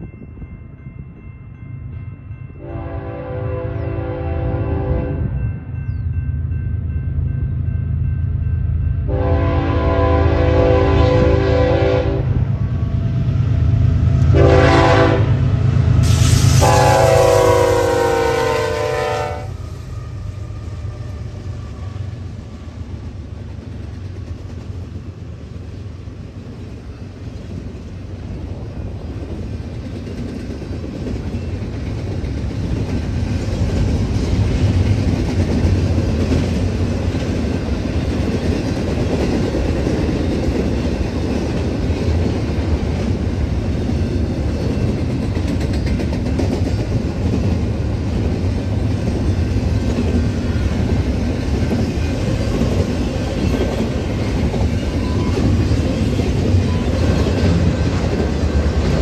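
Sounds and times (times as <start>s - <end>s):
train wheels rumbling on rail: 2.6s - 59.0s.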